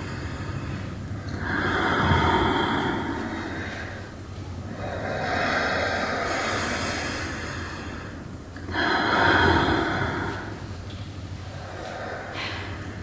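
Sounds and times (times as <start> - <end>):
breathy swells of noise: 0.0 - 13.0
low steady hum: 0.0 - 13.0.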